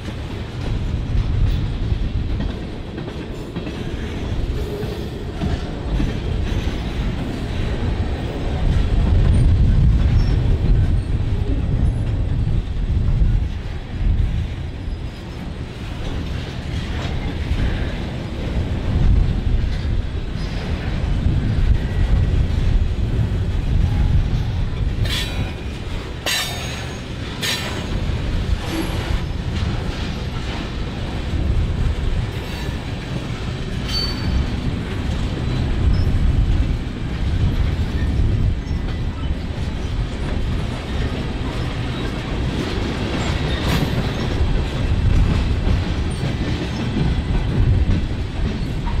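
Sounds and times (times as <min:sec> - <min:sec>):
train rumbling: 0:00.0 - 0:49.0.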